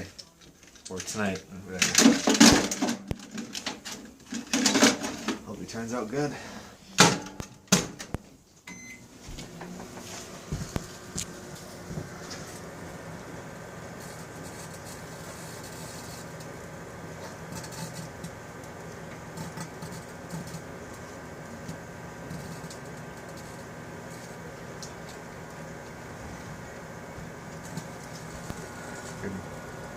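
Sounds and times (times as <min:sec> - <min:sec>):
microwave oven humming: 0:02.0 - 0:29.9.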